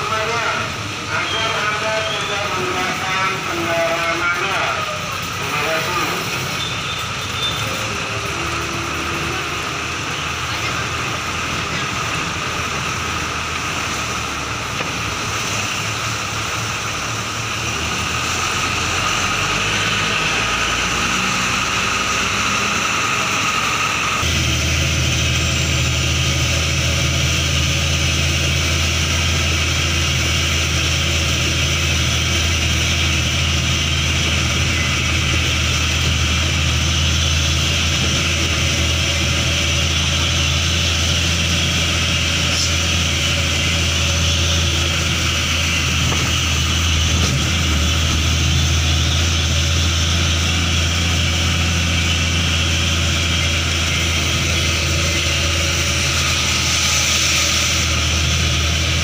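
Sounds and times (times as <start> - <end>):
tyres hissing on wet road: 0.0 - 59.0
vehicle engine droning: 0.0 - 59.0.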